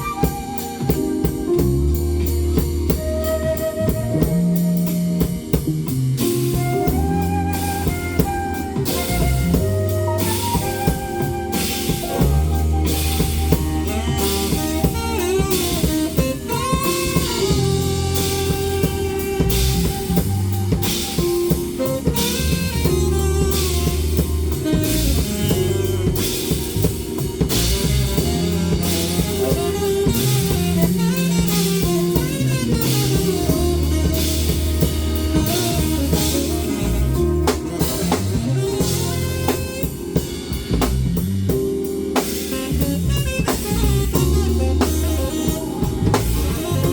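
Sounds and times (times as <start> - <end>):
live band playing blues-jazz: 0.0 - 46.9.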